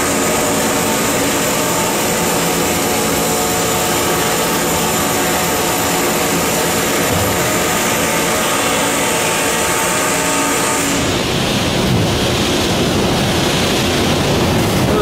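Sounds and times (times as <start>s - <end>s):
industrial motor drone: 0.0s - 15.0s.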